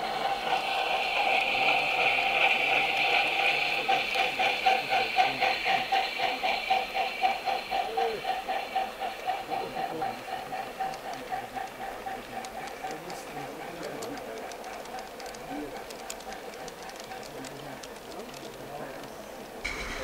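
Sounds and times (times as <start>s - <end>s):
model train clicking and whirring: 0.0s - 20.0s.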